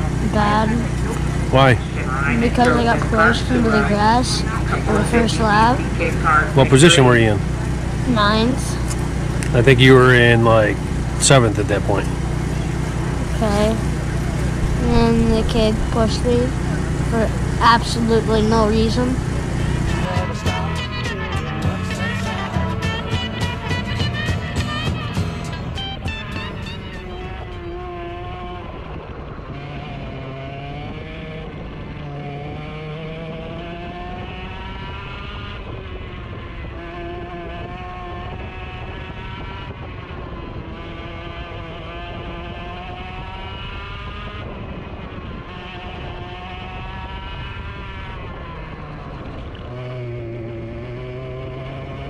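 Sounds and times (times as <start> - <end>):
go-kart engine accelerating: 0.0 - 52.0.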